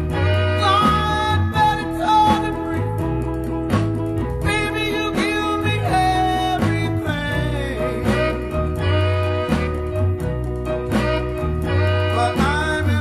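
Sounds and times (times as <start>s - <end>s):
band playing with moving bass line: 0.0s - 13.0s.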